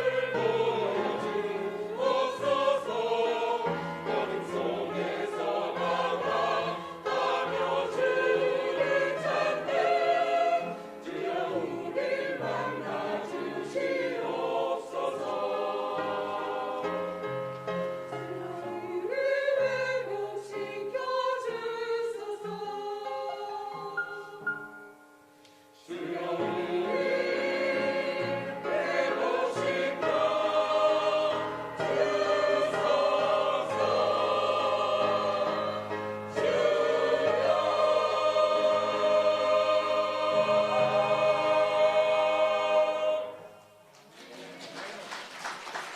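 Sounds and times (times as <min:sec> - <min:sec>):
group singing worship song: 0:00.0 - 0:17.2, 0:18.2 - 0:24.4, 0:25.8 - 0:43.9.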